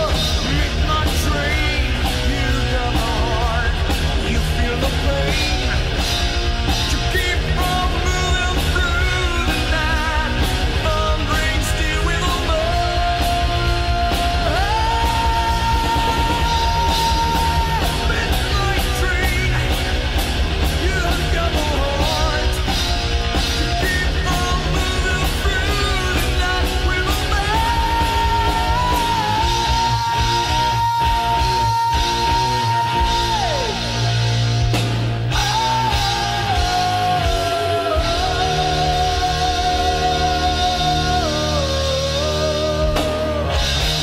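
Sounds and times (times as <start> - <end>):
singer shouting vocals: 0.0 - 6.0, 6.8 - 22.8, 23.6 - 34.2, 35.2 - 44.0
heavy metal band playing: 0.0 - 44.0.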